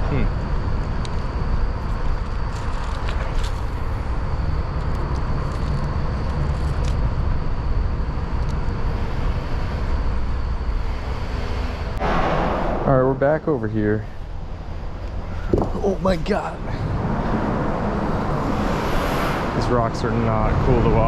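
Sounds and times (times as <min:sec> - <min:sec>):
low outdoor rumble with hiss: 0:00.0 - 0:21.0.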